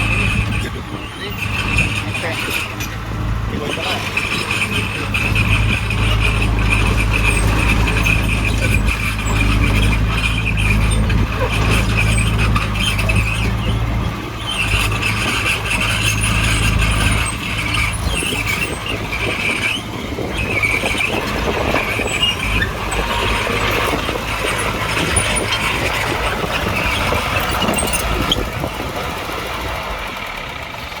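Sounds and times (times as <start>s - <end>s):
bulldozer diesel engine drone: 0.0s - 31.0s
high-pitched squeal: 3.6s - 28.7s.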